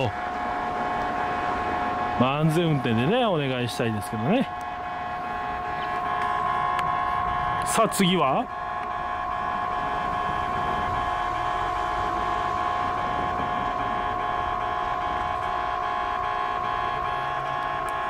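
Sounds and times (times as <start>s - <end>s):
level-crossing alarm bell: 0.0s - 18.0s.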